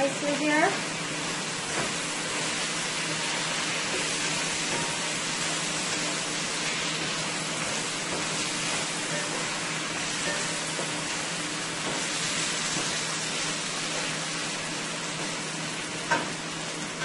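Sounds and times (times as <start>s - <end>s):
potatoes frying in oil: 0.0s - 17.0s.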